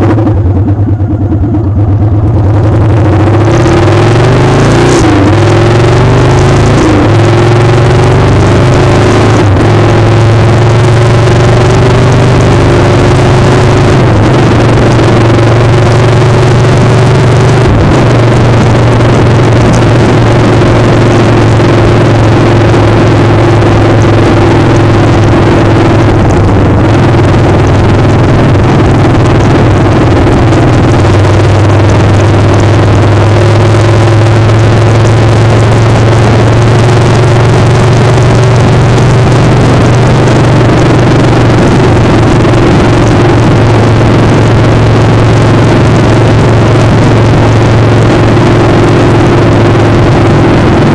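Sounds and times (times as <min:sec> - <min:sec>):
heavy wind noise: 0:00.0 - 0:50.9
motorcycle engine running: 0:00.0 - 0:50.9.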